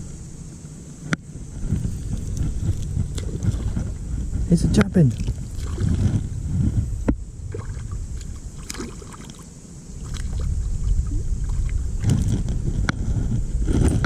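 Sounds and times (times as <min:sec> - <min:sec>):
wind rumble on microphone: 0:00.0 - 0:14.0
water splashing and sloshing: 0:01.0 - 0:12.9.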